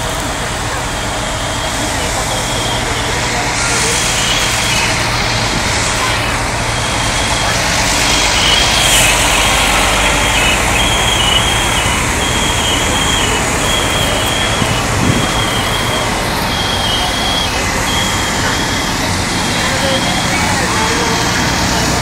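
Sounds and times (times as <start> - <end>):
fire engine rumbling: 0.0 - 22.0
high electronic beeps: 1.0 - 20.8.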